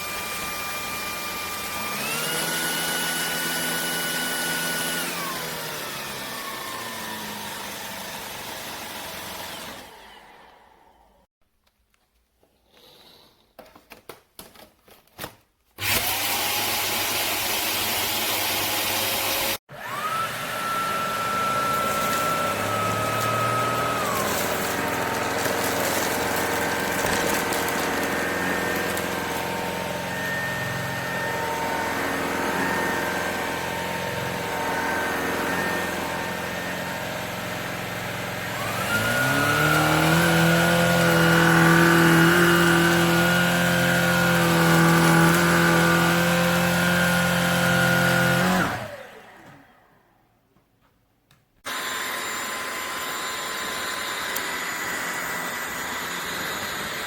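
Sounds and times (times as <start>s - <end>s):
vacuum motor whine: 0.0s - 11.2s, 15.8s - 50.0s, 51.7s - 57.0s.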